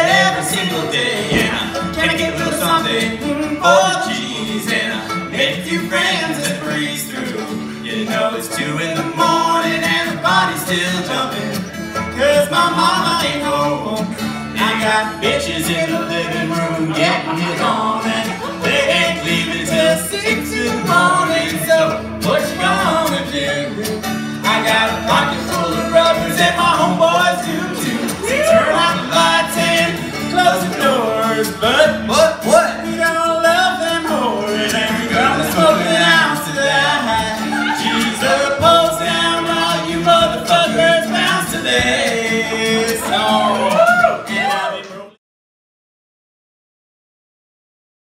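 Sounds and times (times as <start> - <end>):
strummed banjo ukulele: 0.0 - 45.1
acoustic guitar: 0.0 - 45.2
men singing: 0.0 - 45.2.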